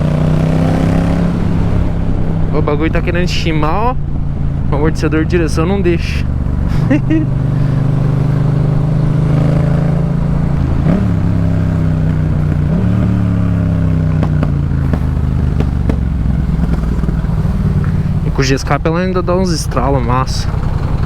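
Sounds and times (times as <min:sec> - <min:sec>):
exhaust pops crackling: 0:00.0 - 0:21.0
motorcycle engine changing gears: 0:00.0 - 0:21.0.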